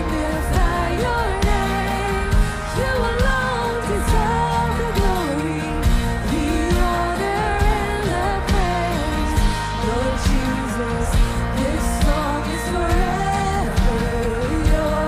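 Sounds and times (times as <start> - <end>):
people singing slow melody: 0.0 - 15.0
worship band playing: 0.0 - 15.0.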